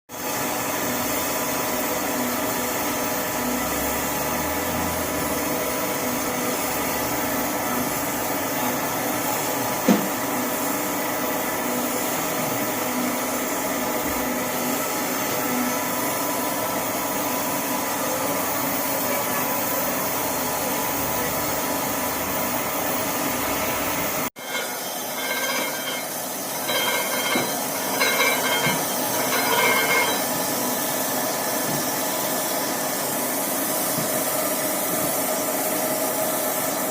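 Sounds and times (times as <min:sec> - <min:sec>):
grinding machine whirring: 0:00.2 - 0:36.9.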